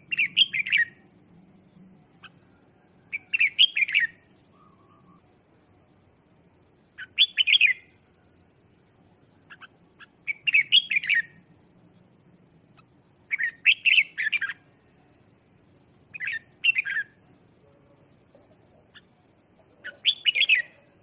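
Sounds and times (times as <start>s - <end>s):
bird singing warbled phrases: 0.0s - 8.2s, 8.9s - 21.0s.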